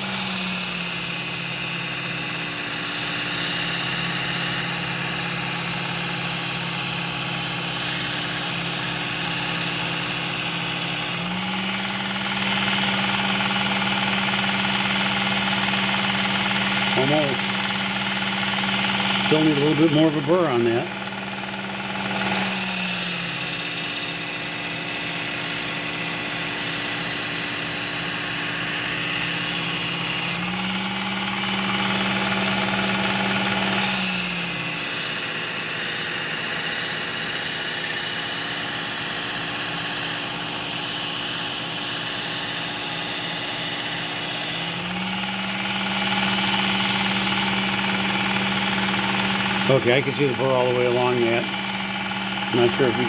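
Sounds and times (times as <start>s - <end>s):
blade grinding on sharpener belt: 0.0s - 53.0s
sharpener motor humming: 0.0s - 53.0s.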